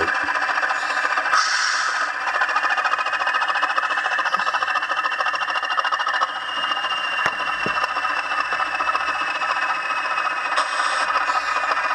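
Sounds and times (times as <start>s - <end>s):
diesel engine beat through small speaker: 0.0s - 11.9s.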